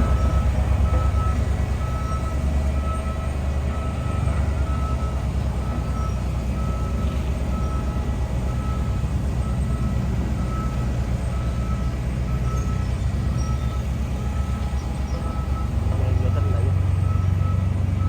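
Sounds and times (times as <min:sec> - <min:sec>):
diesel engine running under load: 0:00.0 - 0:18.0
reversing alarm beeping: 0:00.0 - 0:18.0.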